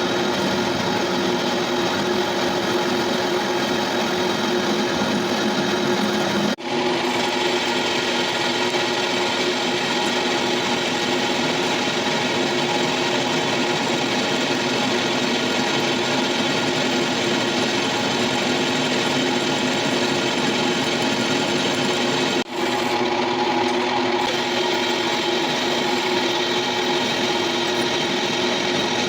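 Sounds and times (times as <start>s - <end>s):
lathe tool scraping metal: 0.0s - 29.0s
metal lathe hum: 0.0s - 29.0s.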